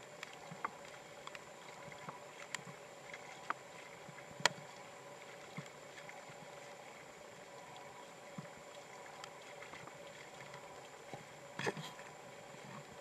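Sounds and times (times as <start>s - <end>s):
water trickling over lawn: 0.0s - 13.0s.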